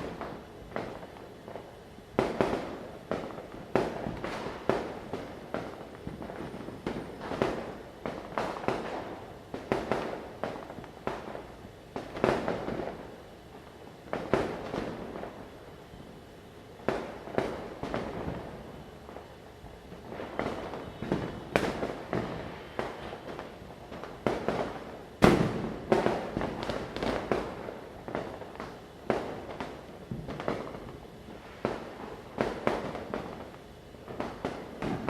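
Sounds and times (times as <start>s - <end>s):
firecrackers banging: 0.0s - 35.0s.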